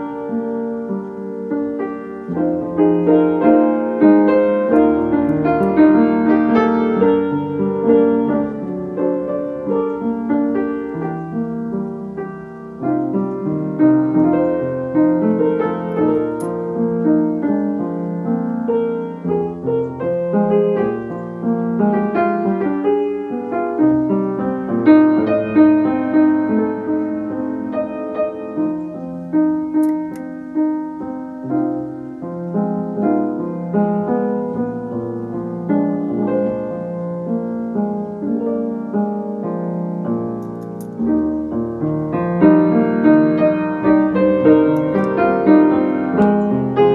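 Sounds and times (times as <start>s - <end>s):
gentle piano music: 0.0s - 46.9s.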